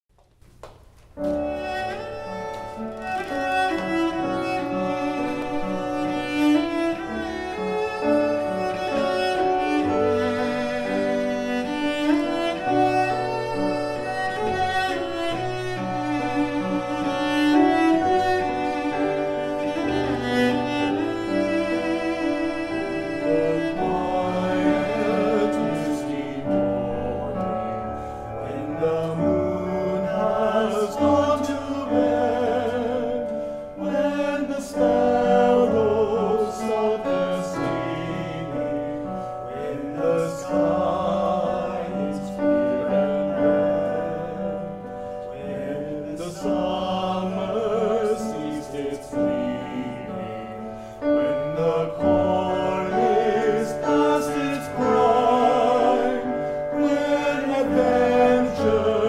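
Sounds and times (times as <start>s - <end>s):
cello sustaining low notes: 1.2s - 59.0s
choir singing: 1.4s - 59.0s.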